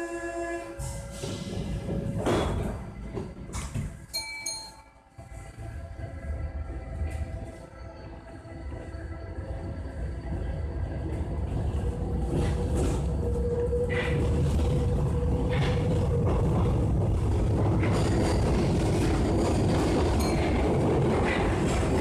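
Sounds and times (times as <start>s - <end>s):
metro train rumbling hum: 0.0s - 22.0s.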